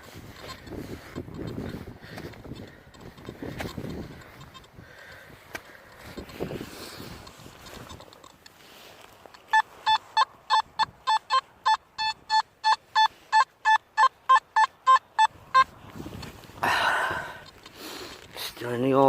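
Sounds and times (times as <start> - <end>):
metal detector beeping: 0.0 - 5.2, 5.8 - 8.5, 9.3 - 18.3.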